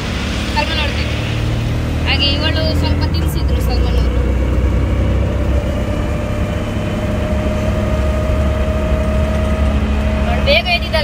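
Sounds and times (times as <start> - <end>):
thin steady whine: 0.0 - 11.0
vehicle engine and road rumble: 0.0 - 11.0.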